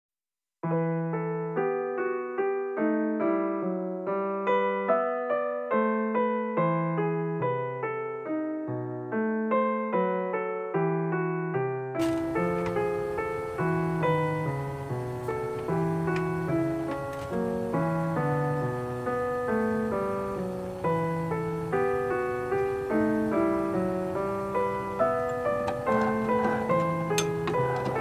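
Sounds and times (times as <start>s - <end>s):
gentle piano music: 0.6s - 28.0s.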